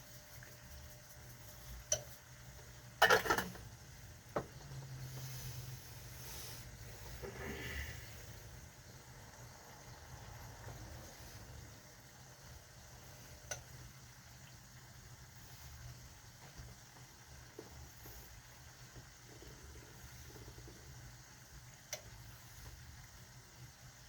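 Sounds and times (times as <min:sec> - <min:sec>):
water heating in a pot: 0:00.0 - 0:24.0.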